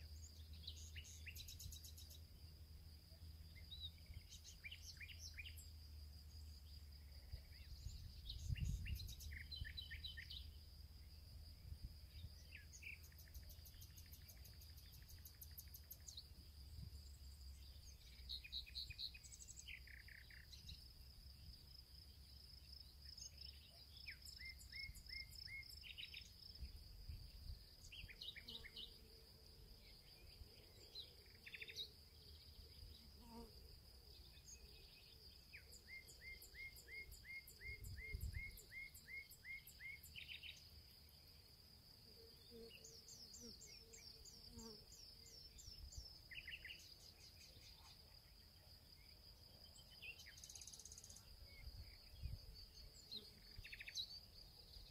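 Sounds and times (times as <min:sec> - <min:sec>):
high insect trill: 0:00.1 - 0:54.9.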